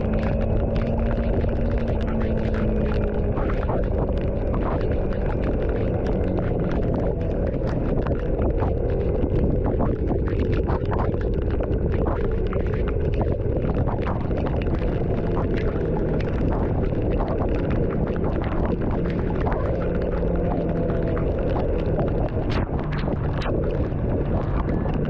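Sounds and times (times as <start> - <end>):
raindrops ticking: 0.0 - 25.0
road and wind rumble: 0.0 - 25.0.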